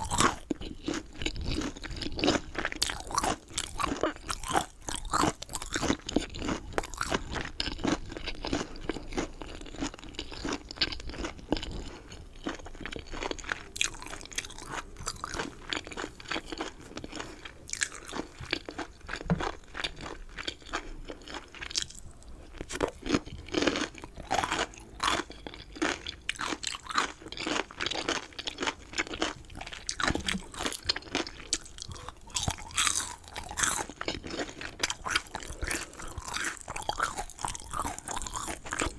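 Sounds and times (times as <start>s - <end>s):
close chewing with crisp crunches: 0.0s - 38.9s.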